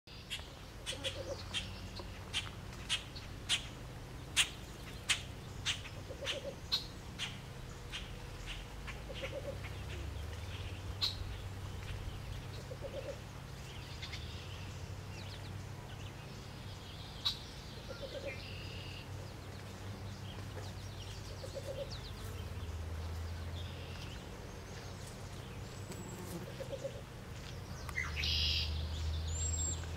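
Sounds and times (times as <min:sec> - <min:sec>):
higher bird song: 0:00.1 - 0:29.9
low steady hum: 0:00.1 - 0:29.9.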